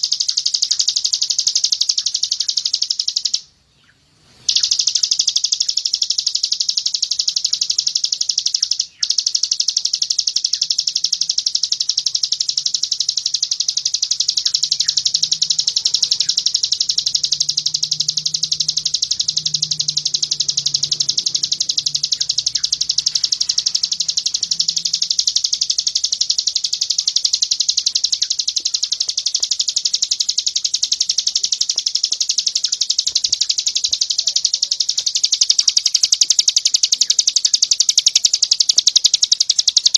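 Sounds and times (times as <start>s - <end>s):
bird high-pitched trill: 0.0s - 39.9s.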